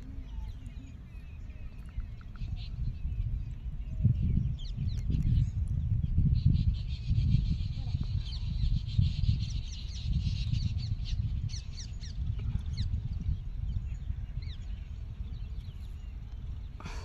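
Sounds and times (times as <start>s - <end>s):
birds chirping: 0.0s - 17.0s
wind rumble on microphone: 0.0s - 17.0s.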